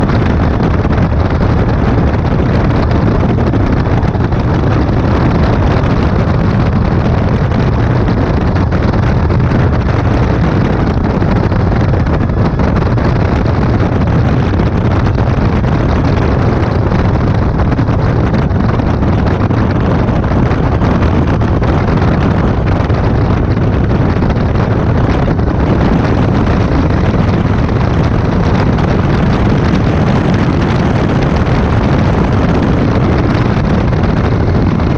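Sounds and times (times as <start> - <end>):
light aircraft engine drone: 0.0 - 34.9
wind noise on microphone: 0.0 - 34.9.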